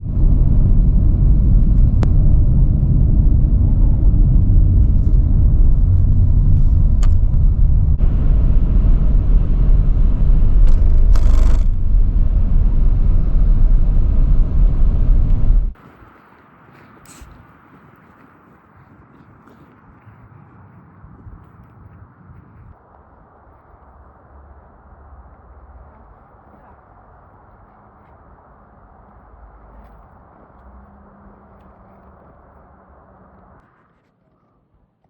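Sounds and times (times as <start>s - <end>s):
wind buffeting microphone: 0.0s - 33.6s.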